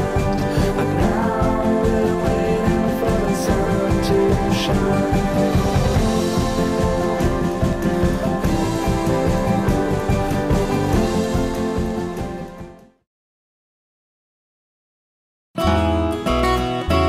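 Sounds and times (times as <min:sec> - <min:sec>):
guitar-led song with steady beat: 0:00.0 - 0:13.0, 0:15.6 - 0:17.0.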